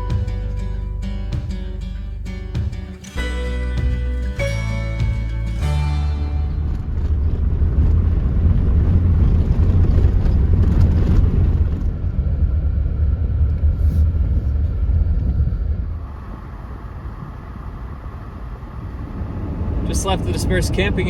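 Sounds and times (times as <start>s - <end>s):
vehicle driving rumble: 0.0s - 21.0s.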